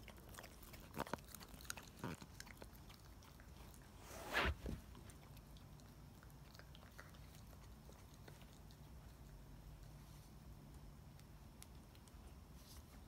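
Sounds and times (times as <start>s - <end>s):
puppy biting and chewing: 0.0s - 13.0s.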